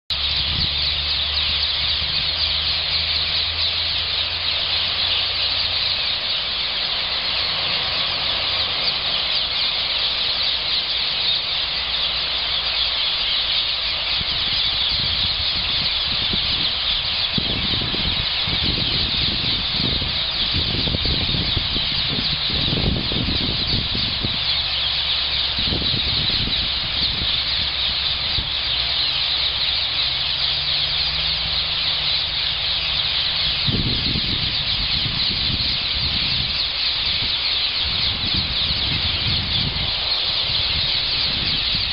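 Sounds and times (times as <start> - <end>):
parakeets screeching: 0.1 - 41.9
wind buffeting microphone: 0.1 - 41.9.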